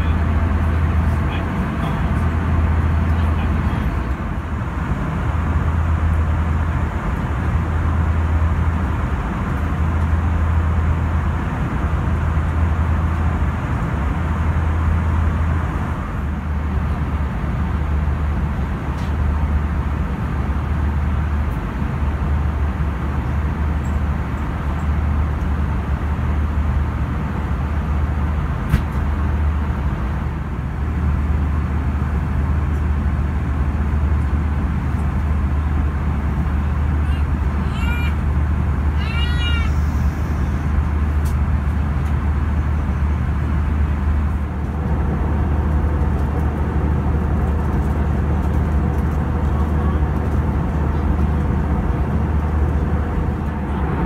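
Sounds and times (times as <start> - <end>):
airliner cabin noise: 0.0 - 54.0.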